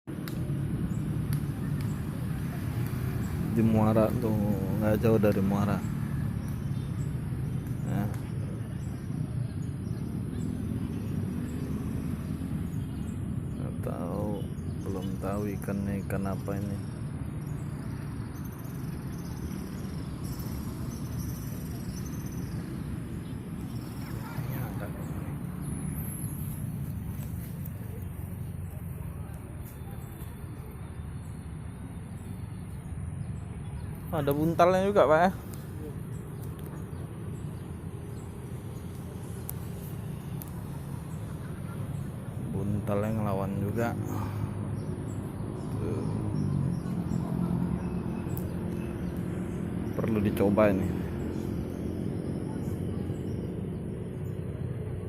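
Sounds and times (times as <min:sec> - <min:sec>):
low engine rumble: 0:00.1 - 0:55.0.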